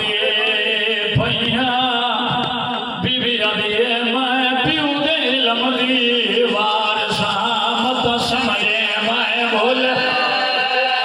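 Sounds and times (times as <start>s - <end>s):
man chanting through microphone: 0.0s - 11.0s.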